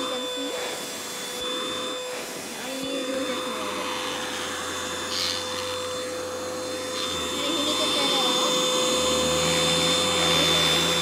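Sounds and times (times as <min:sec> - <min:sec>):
vacuum motor whine: 0:00.0 - 0:11.0.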